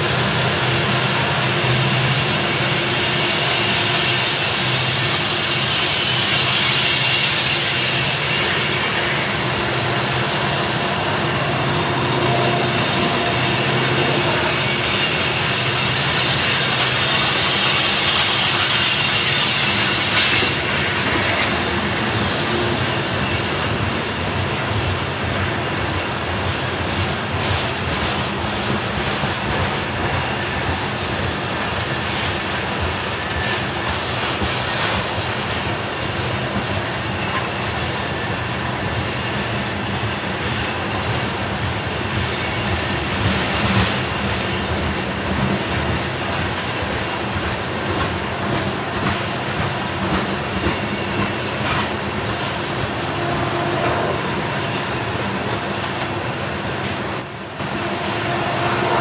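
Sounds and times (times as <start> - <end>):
steel wheels squealing on rails: 0.0 - 59.0
train wheels rumbling on track: 0.0 - 59.0.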